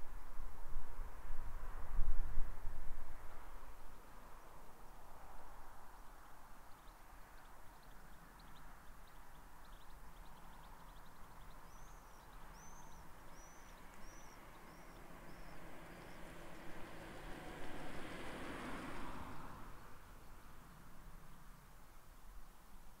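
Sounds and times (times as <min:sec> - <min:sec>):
outdoor background rush: 0:00.0 - 0:23.0
songbird singing: 0:03.9 - 0:23.0.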